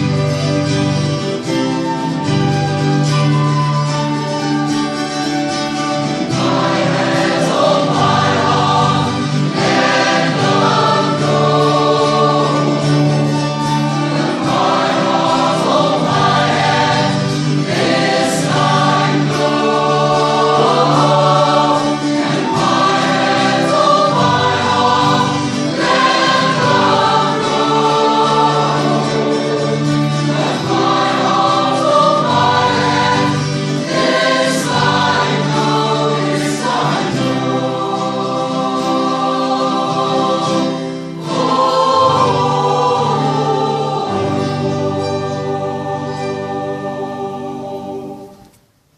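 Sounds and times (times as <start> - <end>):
choir singing harmonies: 0.0 - 48.7.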